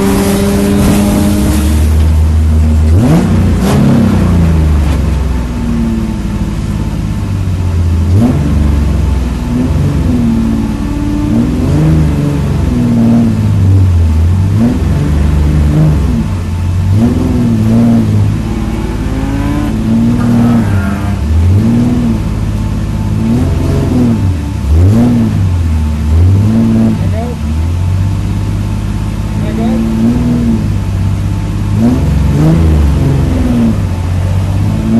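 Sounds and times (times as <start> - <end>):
race car engine revving: 0.0 - 34.9.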